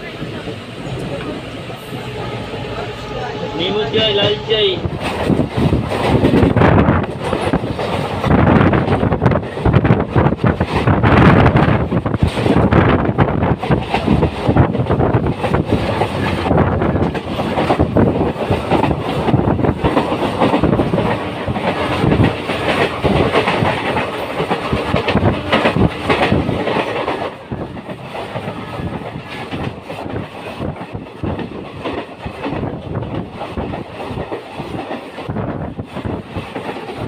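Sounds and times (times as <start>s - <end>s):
train wheels on rails: 0.0s - 37.0s.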